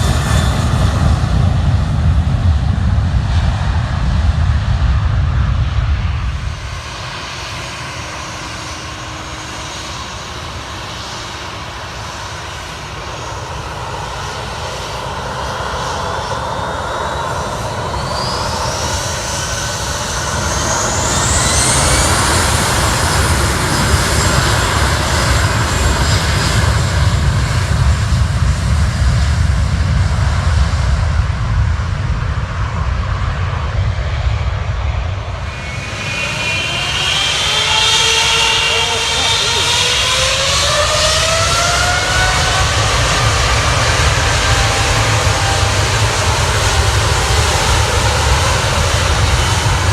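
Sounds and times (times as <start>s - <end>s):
airplane engines passing: 0.0s - 49.9s.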